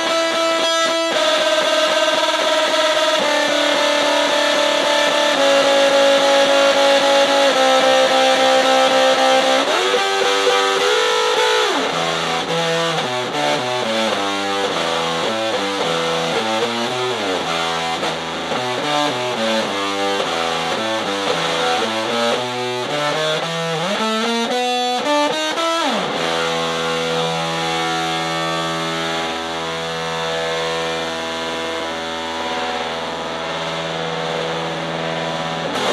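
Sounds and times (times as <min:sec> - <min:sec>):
distorted electric guitar: 0:00.0 - 0:35.9.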